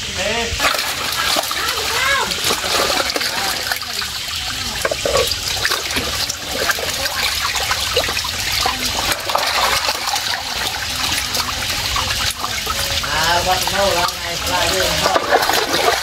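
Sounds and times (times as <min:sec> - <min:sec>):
water sloshing and splashing: 0:00.6 - 0:16.0.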